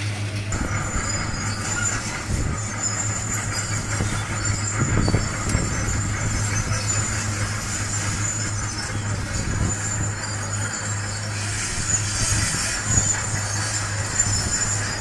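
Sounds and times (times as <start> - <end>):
excavator engine drone: 0.0 - 15.0
loud rumble: 0.0 - 15.0.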